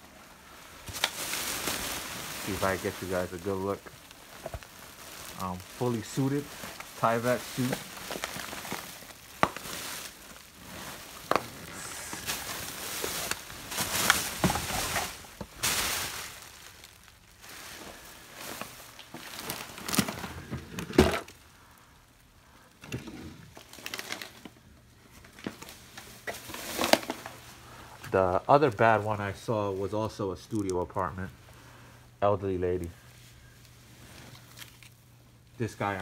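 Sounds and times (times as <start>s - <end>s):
rustling plastic and paper: 0.0s - 21.8s, 22.5s - 31.6s, 32.6s - 36.0s.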